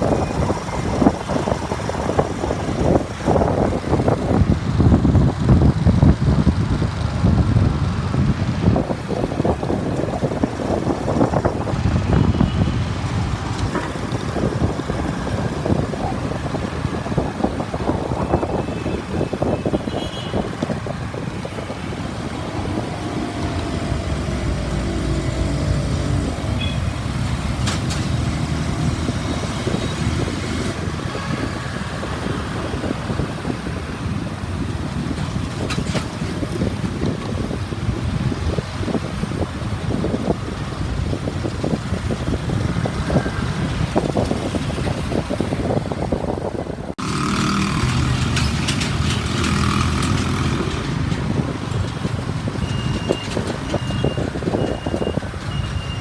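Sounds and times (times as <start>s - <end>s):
engines humming: 0.0s - 56.0s
road noise: 0.0s - 56.0s
wind buffeting microphone: 0.0s - 56.0s.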